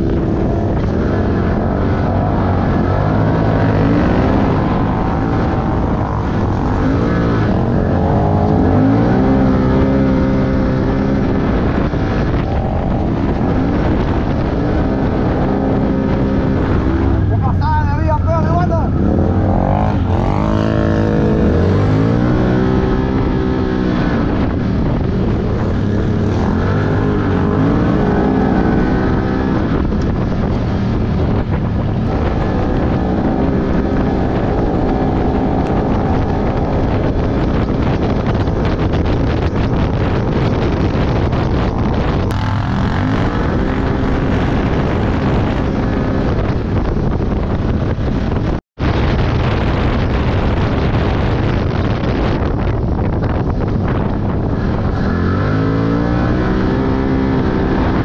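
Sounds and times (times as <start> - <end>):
atv engine revving: 0.0 - 48.6, 50.3 - 58.0
wind buffeting microphone: 0.0 - 58.0.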